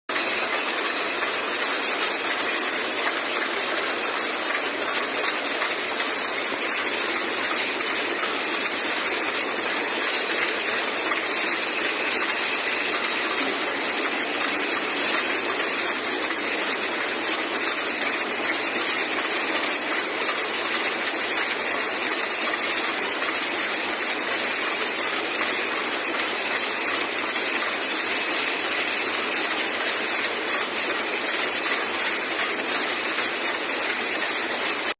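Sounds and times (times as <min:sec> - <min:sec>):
filling machine hissing: 0:00.1 - 0:34.9.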